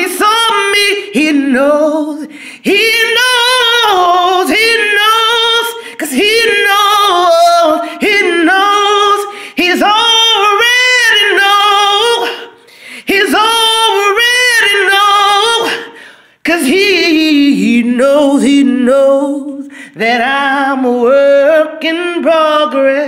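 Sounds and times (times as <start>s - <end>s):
man singing a cappella gospel: 0.0s - 23.0s.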